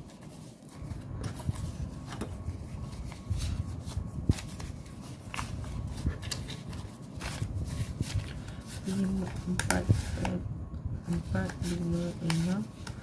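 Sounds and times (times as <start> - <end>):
banknotes rustling and flicking: 0.0 - 10.4, 11.0 - 13.0
low steady rumble: 0.0 - 13.0.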